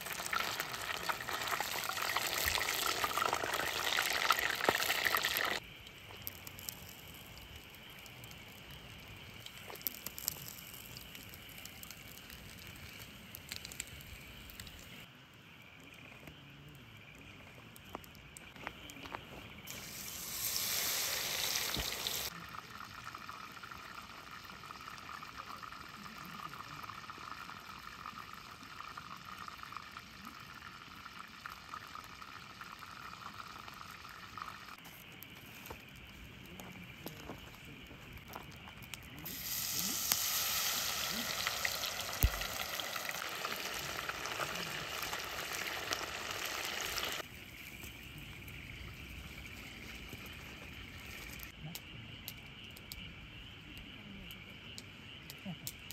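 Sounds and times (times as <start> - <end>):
campfire crackling and popping: 0.0 - 55.9
campfire hissing: 0.0 - 55.9.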